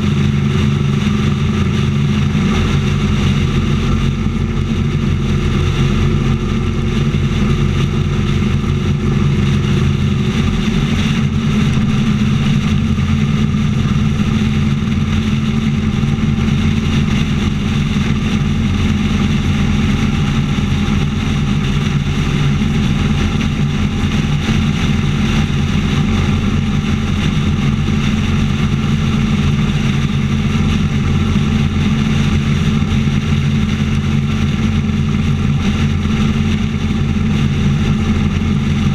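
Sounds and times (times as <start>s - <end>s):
motorcycle engine cruising: 0.0s - 38.9s
road noise: 0.0s - 38.9s
wind noise: 0.0s - 38.9s.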